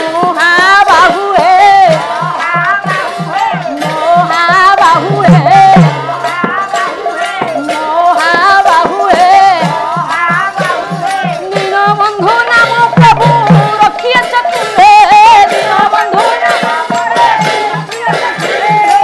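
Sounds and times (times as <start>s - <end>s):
hand drum beat: 0.0s - 19.0s
small cymbals clashing: 0.0s - 19.0s.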